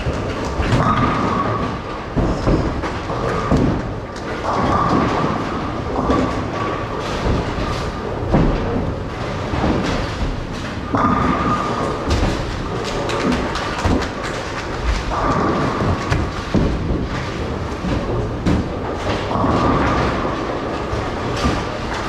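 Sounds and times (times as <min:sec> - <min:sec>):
bowling balls rolling and thudding: 0:00.0 - 0:22.0
clacks of pins and balls: 0:00.0 - 0:22.0.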